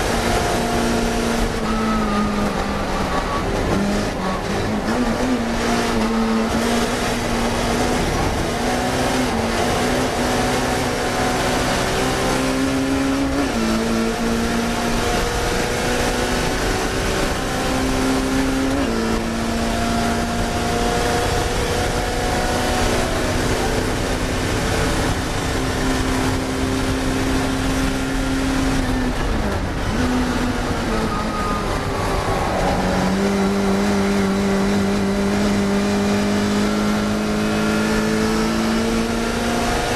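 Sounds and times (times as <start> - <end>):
race car engine shifting gears: 0.0 - 39.9.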